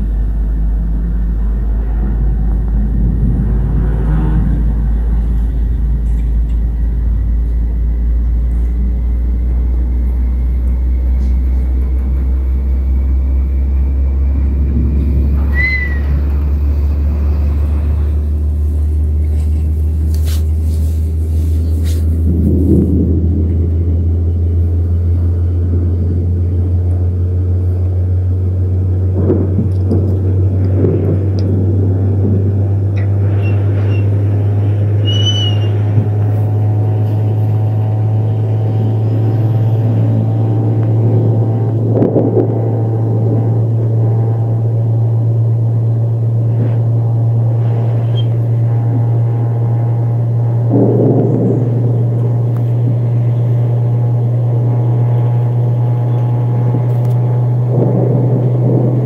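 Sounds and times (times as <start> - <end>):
thunder rumbling: 0.0 - 59.0.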